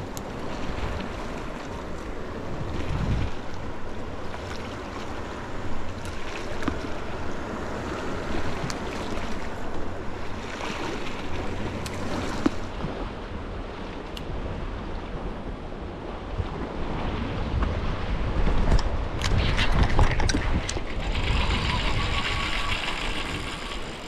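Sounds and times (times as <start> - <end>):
waves washing against rocks: 0.0 - 12.9, 17.1 - 24.0
wind buffeting microphone: 0.0 - 24.0.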